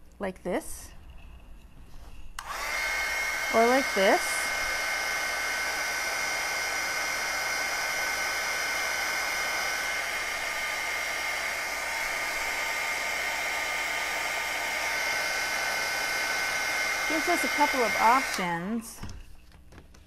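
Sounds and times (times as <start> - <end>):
heat gun blowing with whine: 2.4 - 19.1.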